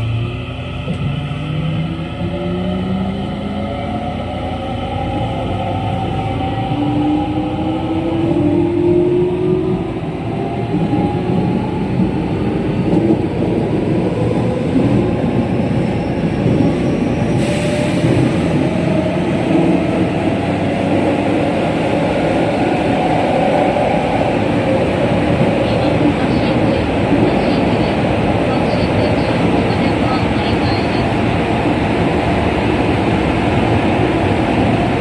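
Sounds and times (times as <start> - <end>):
train wheel and rail rumble: 0.0 - 35.0.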